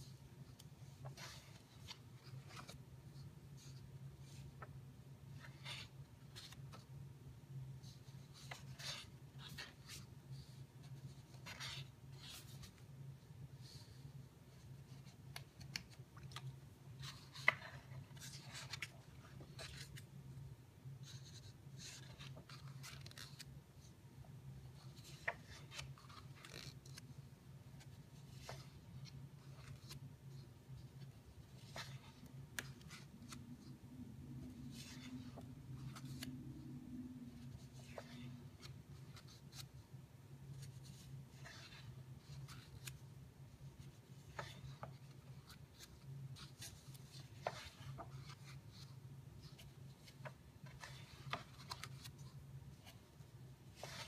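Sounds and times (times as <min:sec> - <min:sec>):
book pages turning: 0:00.5 - 0:04.8, 0:05.4 - 0:06.9, 0:07.8 - 0:12.9, 0:13.6 - 0:20.1, 0:21.0 - 0:23.9, 0:24.7 - 0:27.2, 0:27.8 - 0:33.8, 0:34.4 - 0:39.8, 0:40.5 - 0:43.1, 0:43.8 - 0:54.0.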